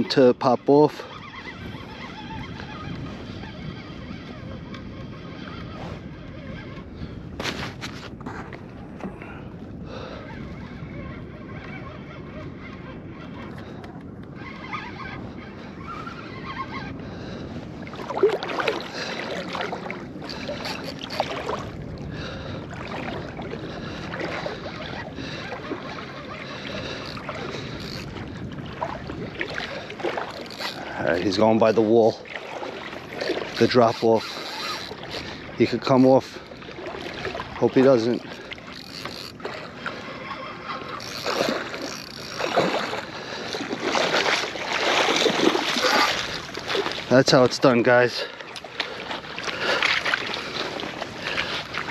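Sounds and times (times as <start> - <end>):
water sloshing and splashing: 0.0 - 51.9
wind on microphone: 0.0 - 51.9.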